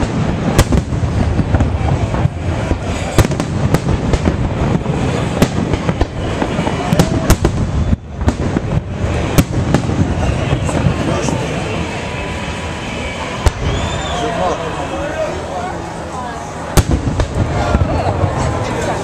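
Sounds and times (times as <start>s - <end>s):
continuous rumble: 0.0s - 19.0s.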